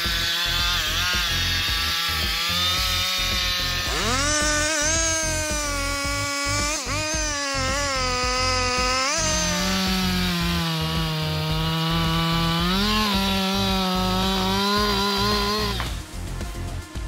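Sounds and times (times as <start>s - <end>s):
chainsaw cutting through tree trunk: 0.0s - 17.0s.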